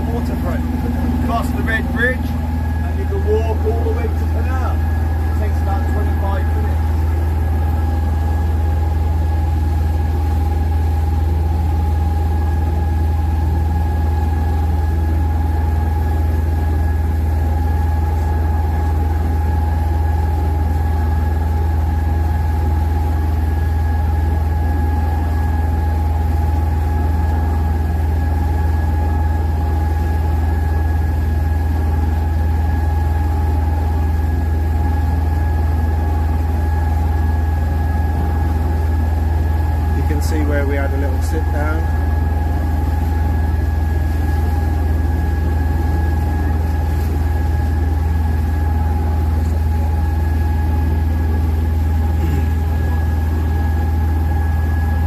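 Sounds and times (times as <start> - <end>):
boat engine droning: 0.0 - 55.0
engine whine: 0.0 - 55.0.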